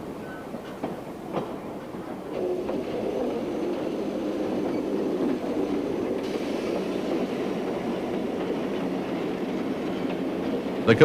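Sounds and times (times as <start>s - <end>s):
train rolling along track: 0.0s - 11.0s.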